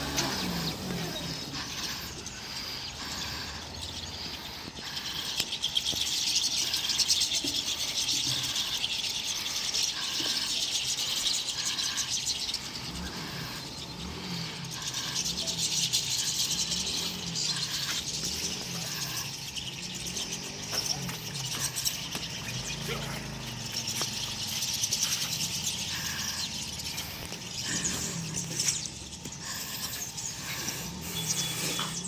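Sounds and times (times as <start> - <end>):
flock of birds twittering: 0.0 - 32.0.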